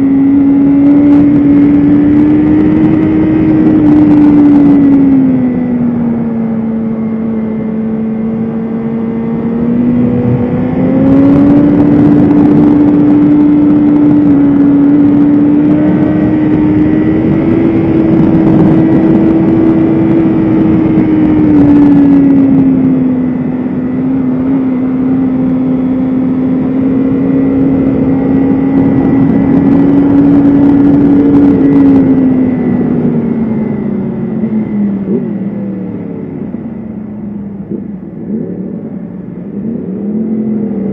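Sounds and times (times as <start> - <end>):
wind rush: 0.0 - 7.4, 8.0 - 40.9
motorcycle engine at high revs: 0.0 - 40.9.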